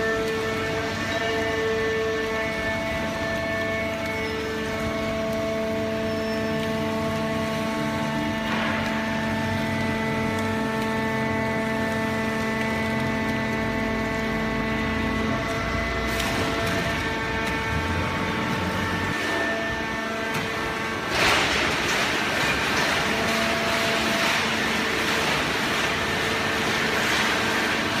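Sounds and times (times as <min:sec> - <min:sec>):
baler machine humming and rattling: 0:00.0 - 0:28.0.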